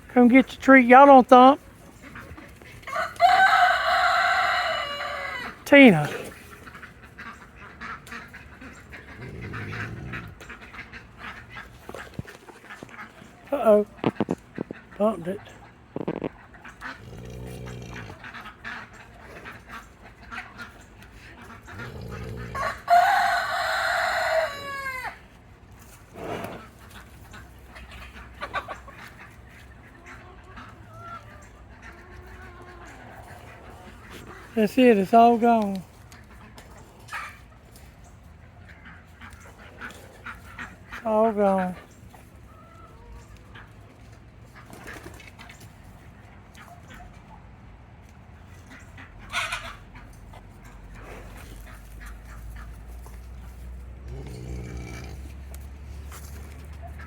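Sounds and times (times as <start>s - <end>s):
poultry clucking: 0.0s - 57.0s.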